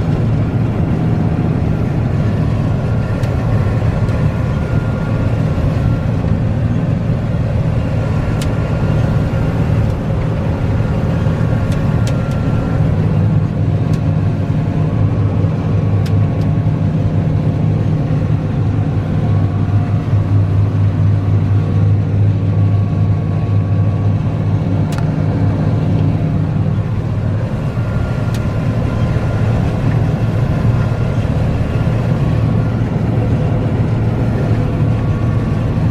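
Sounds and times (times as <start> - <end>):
combine harvester engine drone: 0.0 - 35.9.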